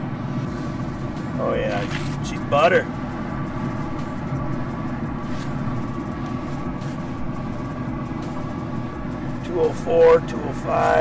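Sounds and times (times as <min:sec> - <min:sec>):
fan whine: 0:00.0 - 0:11.0
pellet grill humming: 0:00.0 - 0:11.0.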